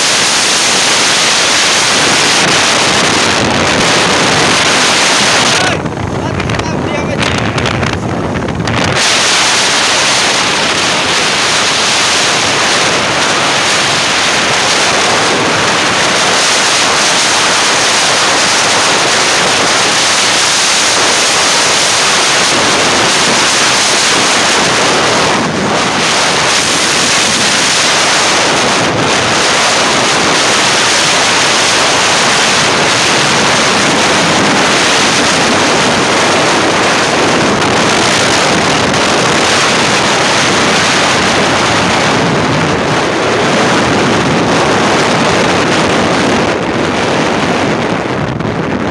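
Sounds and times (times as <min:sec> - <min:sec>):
sea waves: 0:00.0 - 0:46.4
wind buffeting microphone: 0:00.0 - 0:48.9.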